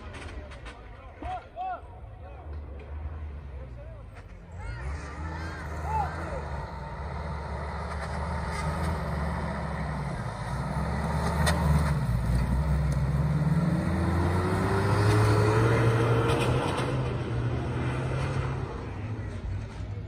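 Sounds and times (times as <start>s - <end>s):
car engine revving: 2.8s - 20.0s.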